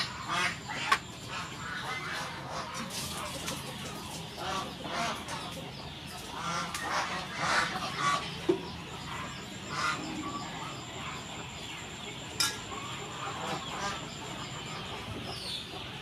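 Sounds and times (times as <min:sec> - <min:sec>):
poultry honking and clucking: 0:00.0 - 0:16.0.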